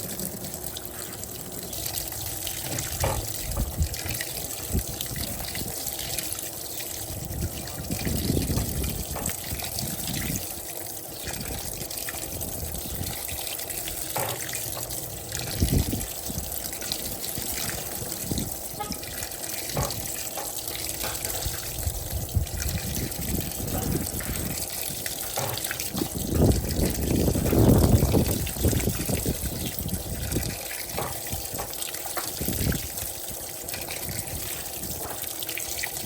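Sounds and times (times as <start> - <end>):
water pouring into washing machine: 0.0 - 36.0.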